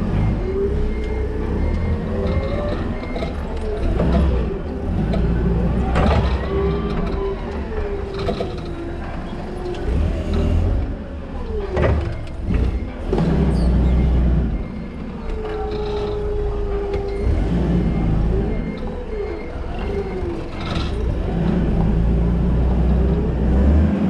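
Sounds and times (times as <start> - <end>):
forklift engine drone and whine: 0.0 - 24.0.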